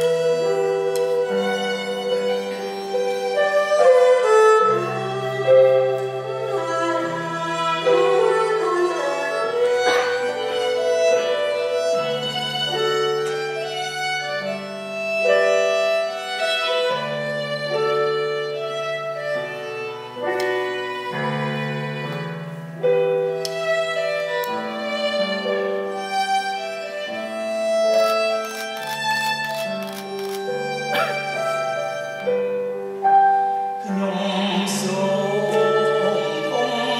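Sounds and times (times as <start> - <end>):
bowed string ensemble music: 0.0 - 36.9.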